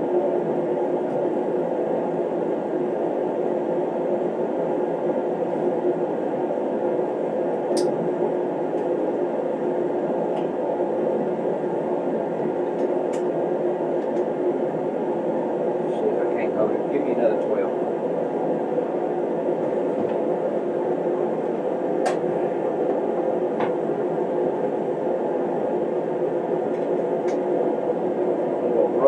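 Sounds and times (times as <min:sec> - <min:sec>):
space heater humming: 0:00.0 - 0:29.0.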